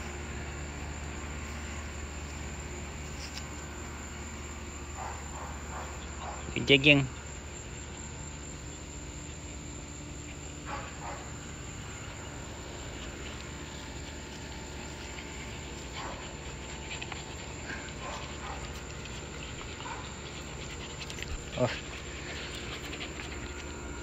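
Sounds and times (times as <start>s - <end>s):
faint dog sounds: 0.0s - 24.0s
insects chirping: 0.0s - 24.0s.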